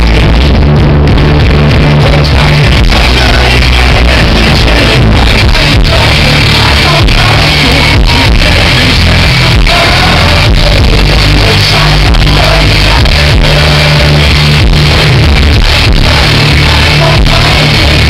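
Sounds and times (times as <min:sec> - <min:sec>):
person singing: 0:00.0 - 0:18.0
rock band playing live: 0:00.0 - 0:18.0.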